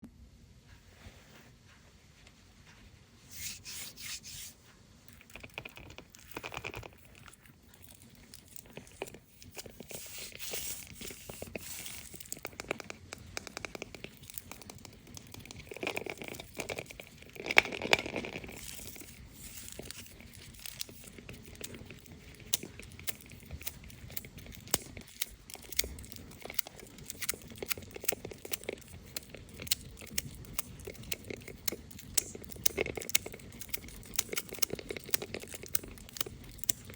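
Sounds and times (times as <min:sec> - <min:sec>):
foil wrapper tearing and crinkling: 0:05.4 - 0:12.7, 0:13.8 - 0:36.9.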